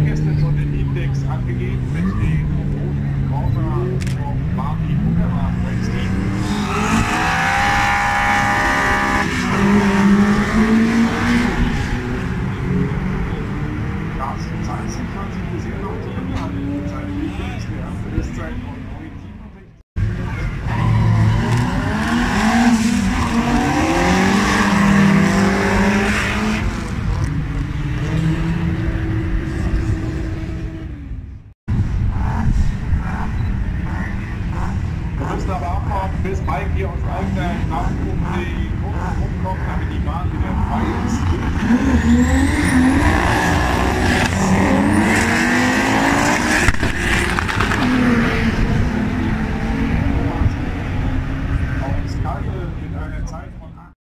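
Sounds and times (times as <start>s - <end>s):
race car engines accelerating: 0.0s - 54.0s.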